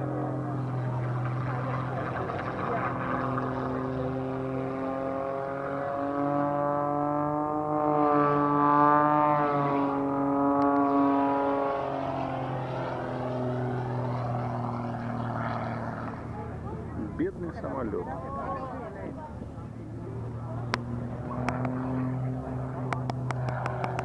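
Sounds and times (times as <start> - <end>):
propeller plane engine overhead: 0.0 - 24.0.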